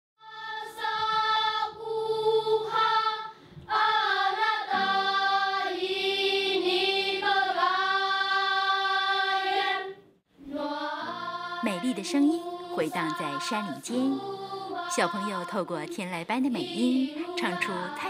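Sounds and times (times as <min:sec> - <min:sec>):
children's choir singing: 0:00.2 - 0:18.0.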